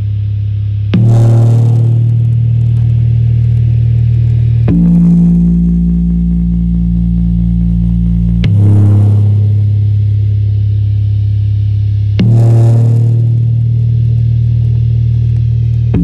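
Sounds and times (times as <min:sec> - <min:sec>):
synthesizer bass drone: 0:00.0 - 0:16.0.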